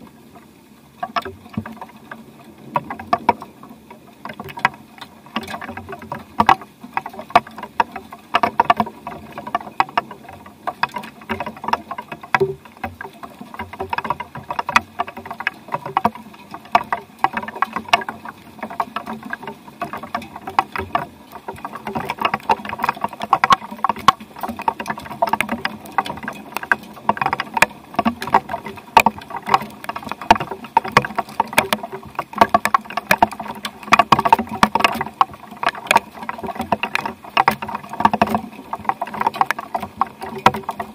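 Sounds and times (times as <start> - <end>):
rain dripping and pattering: 0.0 - 40.9.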